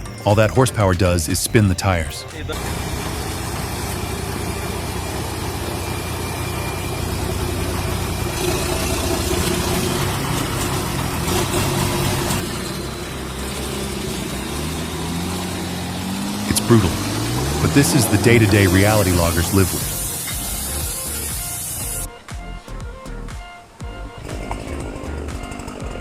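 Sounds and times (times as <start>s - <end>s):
tires spinning: 0.0s - 22.1s, 23.9s - 26.0s
tractor diesel engine under load: 0.0s - 22.1s, 24.1s - 26.0s.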